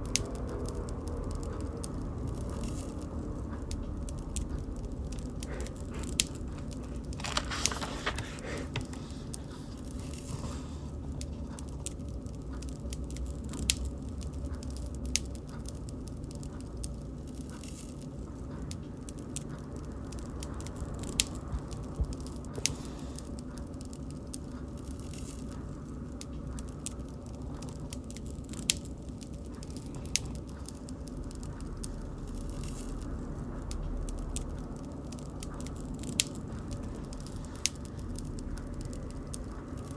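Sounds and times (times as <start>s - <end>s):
bonfire crackling and popping: 0.0s - 39.9s
low rumble of flames: 0.0s - 39.9s.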